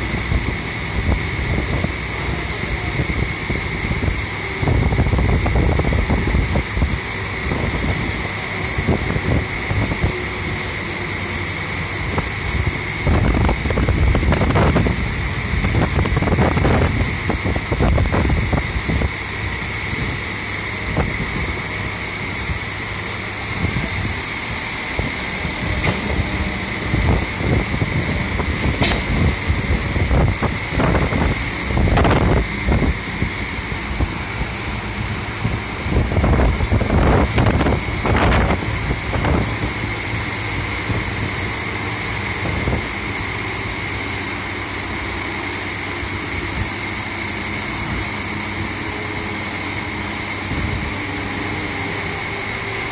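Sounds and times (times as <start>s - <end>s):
truck engine humming with high whine: 0.0s - 52.9s.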